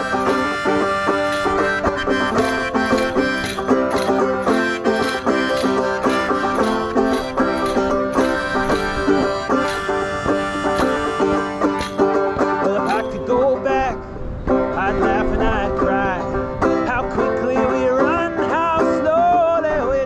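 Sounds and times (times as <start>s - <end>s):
banjo plucked notes: 0.0s - 20.0s.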